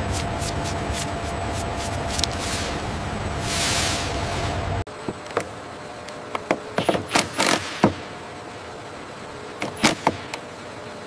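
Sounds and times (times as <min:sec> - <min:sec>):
hangar hum: 0:00.0 - 0:11.0.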